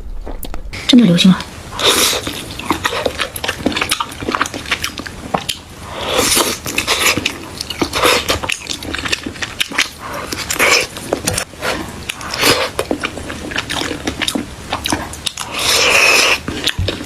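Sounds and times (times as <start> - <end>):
chewing and biting: 1.8 - 17.0.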